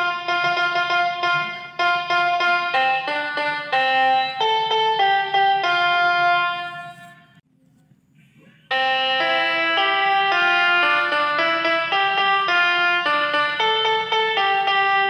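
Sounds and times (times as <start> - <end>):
bus air horn tune: 0.0 - 7.4, 8.7 - 15.0.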